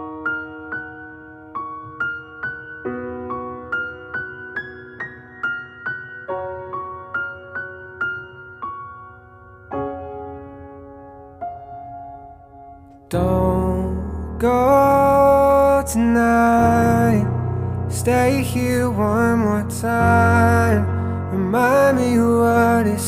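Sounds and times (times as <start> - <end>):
slow sad piano melody: 0.0 - 23.0.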